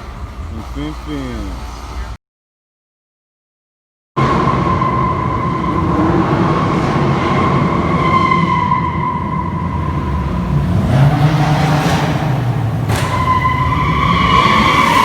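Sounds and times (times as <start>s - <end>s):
car engines rumbling: 0.0s - 2.2s, 4.2s - 15.0s.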